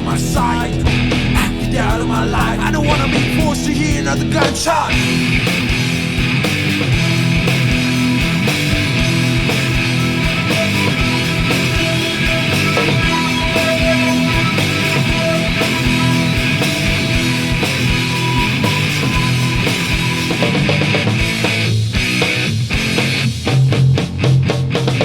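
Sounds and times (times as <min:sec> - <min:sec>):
electric guitars and bass: 0:00.0 - 0:25.0
steady drum beat: 0:00.0 - 0:25.0.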